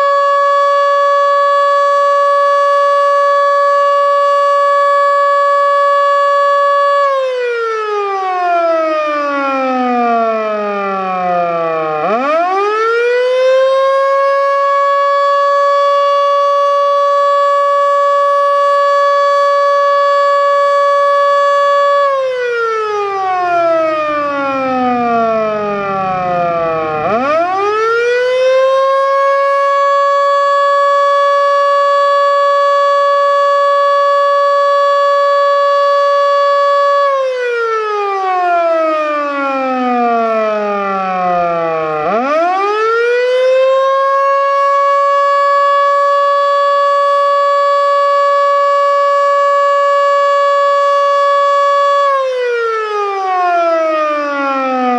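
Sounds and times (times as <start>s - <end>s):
warning siren wailing: 0.0s - 54.9s.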